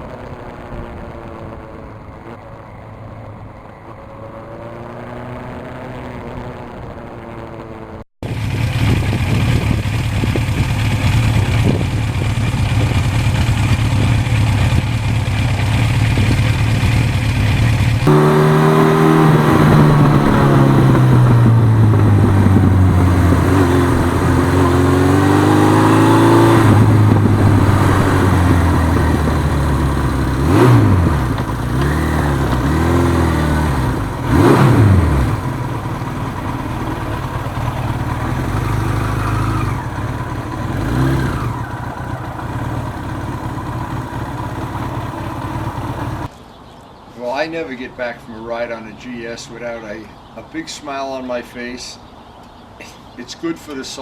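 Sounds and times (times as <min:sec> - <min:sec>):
motorcycle engine running: 0:00.0 - 0:46.3.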